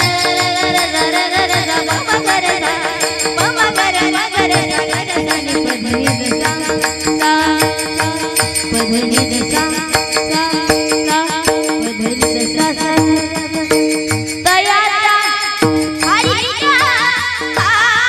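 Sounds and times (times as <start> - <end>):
drum strokes: 0.0 - 14.7
harmonium chords: 0.0 - 18.0.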